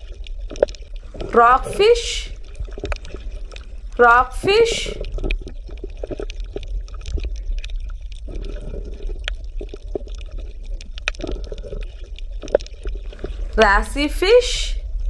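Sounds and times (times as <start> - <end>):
low water rumble: 0.0 - 15.0
water bubbling and gurgling: 0.0 - 15.0.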